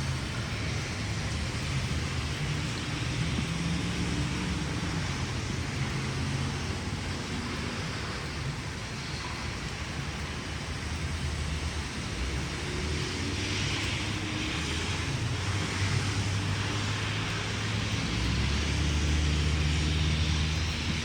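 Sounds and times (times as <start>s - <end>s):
passing vehicle rush: 0.0s - 21.0s
vehicle engine running: 0.0s - 21.0s.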